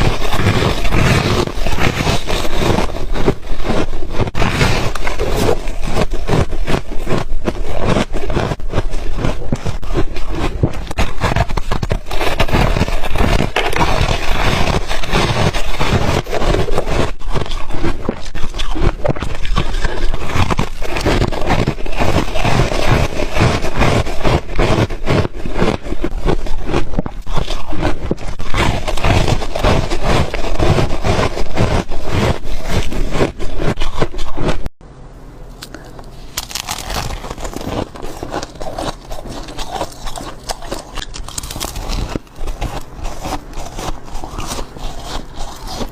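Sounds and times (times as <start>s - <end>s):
frost being scraped and crunched: 0.0s - 34.7s, 35.6s - 45.9s
steady low hum: 0.0s - 45.9s.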